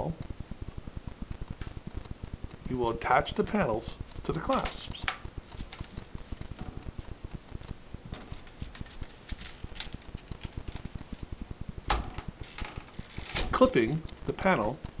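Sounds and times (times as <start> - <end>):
fast low pulsing: 0.0 - 15.0.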